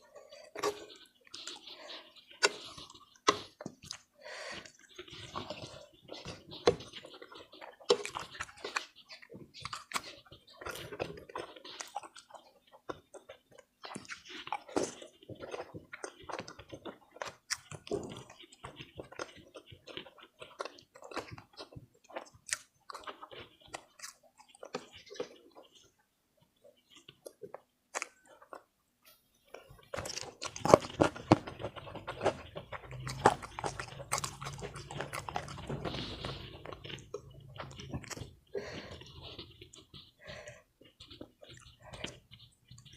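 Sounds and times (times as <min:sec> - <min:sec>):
chewing and biting food: 0:00.0 - 0:42.9.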